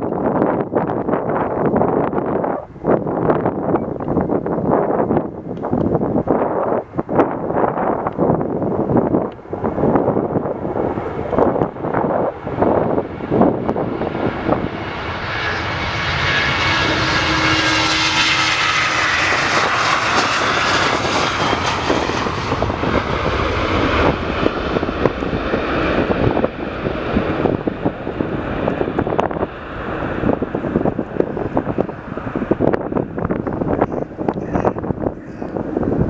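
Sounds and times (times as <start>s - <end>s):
jet airliner engines roaring: 0.0s - 36.0s
wind buffeting microphone: 0.0s - 36.0s.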